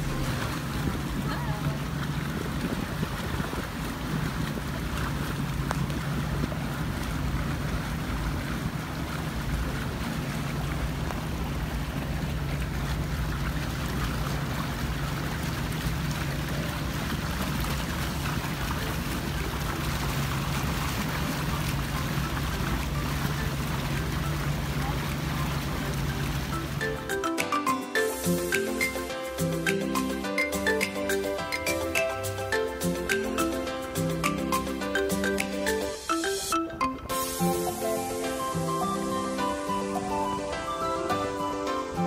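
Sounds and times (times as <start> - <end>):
outboard engine droning: 0.0 - 42.0
water rushing along hull: 0.0 - 42.0.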